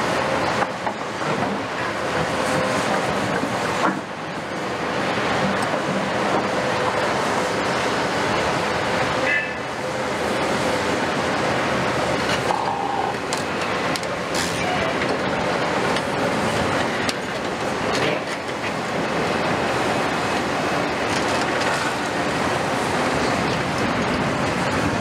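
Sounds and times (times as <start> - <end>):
excavators running: 0.0 - 25.0.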